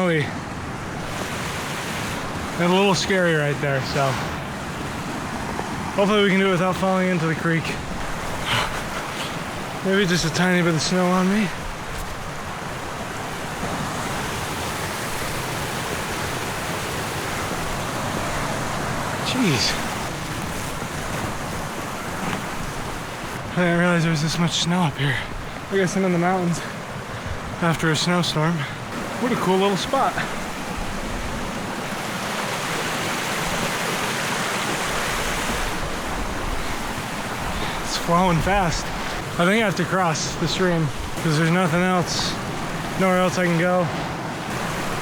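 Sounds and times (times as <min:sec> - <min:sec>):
mountain creek rushing: 0:00.0 - 0:45.0.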